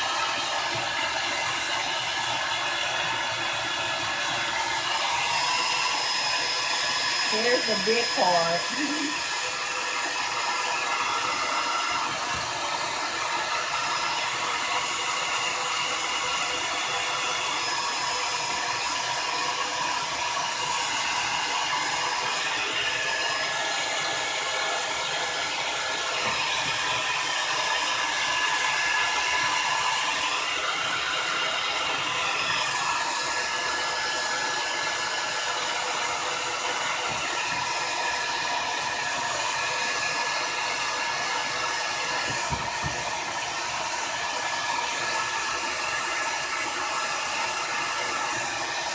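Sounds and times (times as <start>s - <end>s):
hair dryer blowing: 0.0s - 48.9s.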